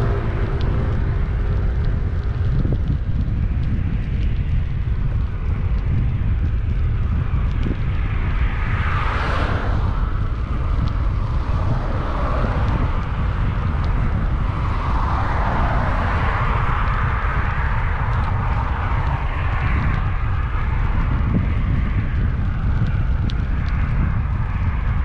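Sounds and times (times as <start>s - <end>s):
cars passing: 0.0s - 3.7s, 7.6s - 25.0s
wind buffeting microphone: 0.0s - 25.0s.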